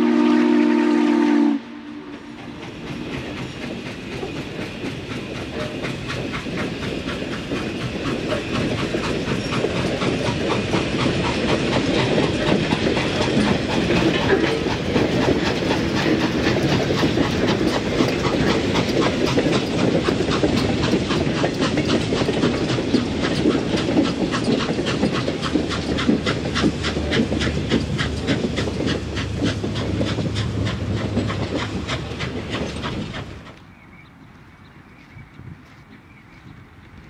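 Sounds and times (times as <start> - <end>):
steam locomotive exhaust chuffs: 0.0 - 34.1.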